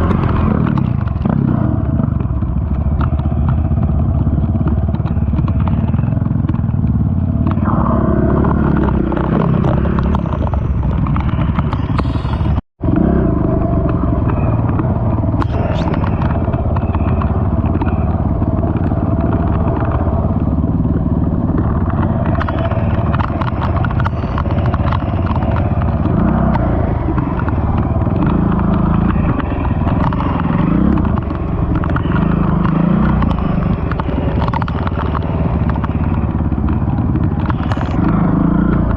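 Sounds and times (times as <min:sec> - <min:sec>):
quad engine under load: 0:00.0 - 0:38.9
rattling over rough ground: 0:00.0 - 0:38.9.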